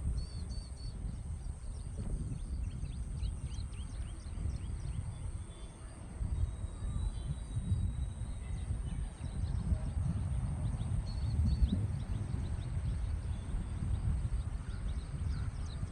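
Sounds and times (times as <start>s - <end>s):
steady low rumble: 0.0s - 15.9s
small birds chirping: 0.1s - 15.9s.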